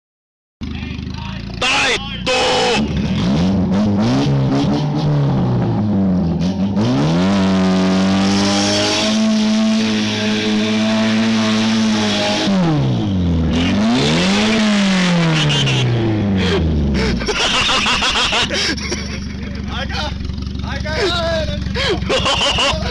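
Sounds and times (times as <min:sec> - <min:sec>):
car engine revving: 0:00.6 - 0:22.9.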